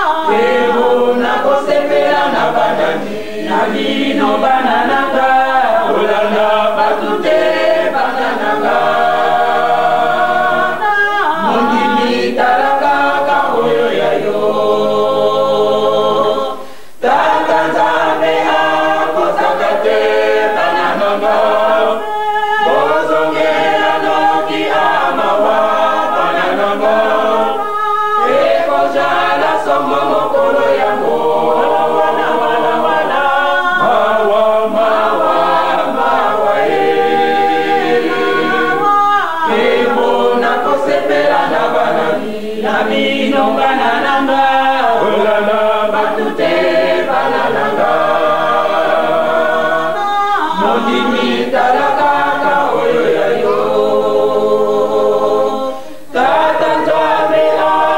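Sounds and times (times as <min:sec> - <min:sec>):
choir singing a hymn: 0:00.0 - 0:57.9.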